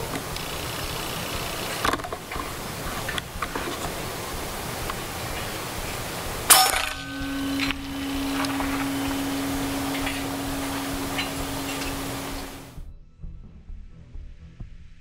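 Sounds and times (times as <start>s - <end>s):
steady low hum: 0.0s - 12.8s
wind noise: 0.0s - 12.8s.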